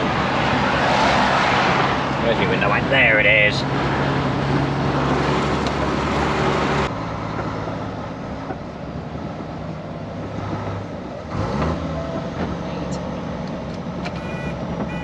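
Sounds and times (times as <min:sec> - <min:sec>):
road noise: 0:00.0 - 0:15.0
lorry diesel engine running: 0:01.5 - 0:15.0.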